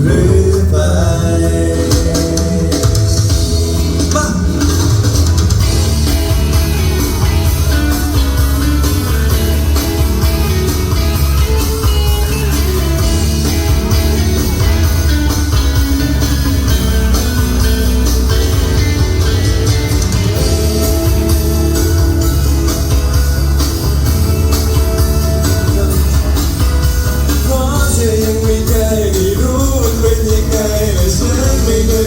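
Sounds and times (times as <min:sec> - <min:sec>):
electric guitar: 0:00.0 - 0:32.0
live band playing: 0:00.0 - 0:32.0.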